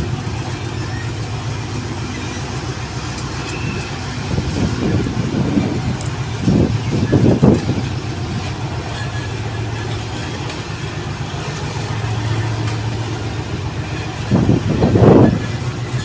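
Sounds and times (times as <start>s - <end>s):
low engine drone: 0.0s - 16.0s
train coaches rolling past: 0.0s - 16.0s.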